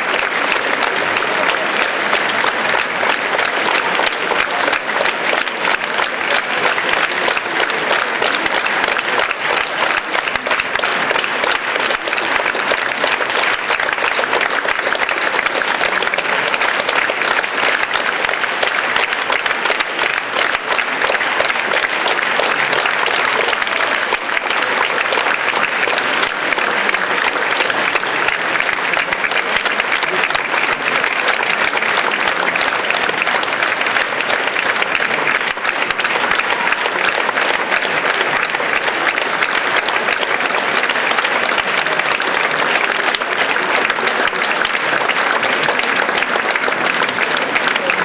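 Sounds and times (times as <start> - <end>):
audience applauding: 0.0 - 48.0.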